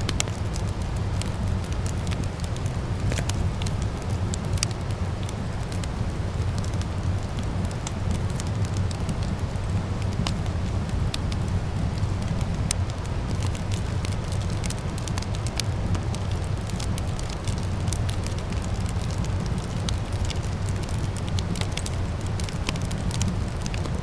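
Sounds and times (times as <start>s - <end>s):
fire crackling: 0.0s - 24.0s
low fire rumble: 0.0s - 24.0s
sharp pops and snaps: 0.0s - 24.0s.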